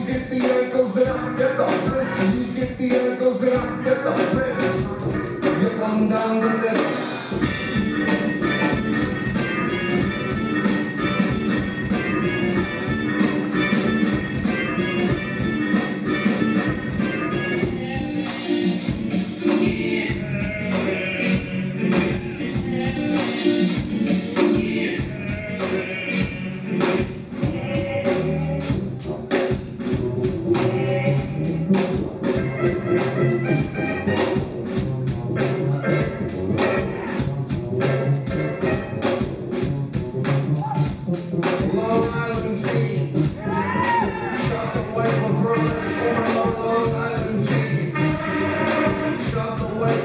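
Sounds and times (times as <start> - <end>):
bass guitar: 0.0 - 50.0
drums playing a steady beat: 0.0 - 50.0
sustained pitched notes: 7.3 - 43.6, 44.2 - 50.0.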